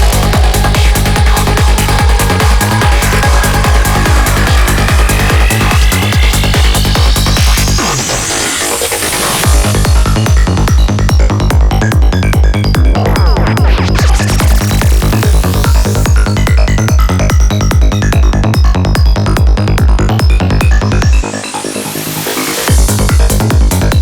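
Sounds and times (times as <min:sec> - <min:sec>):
fast kick drum: 0:00.0 - 0:07.9, 0:09.4 - 0:21.3, 0:22.7 - 0:24.0
rising synth sweep: 0:00.0 - 0:18.3, 0:19.1 - 0:24.0
rolling bassline: 0:00.0 - 0:24.0
synth layers: 0:00.0 - 0:24.0.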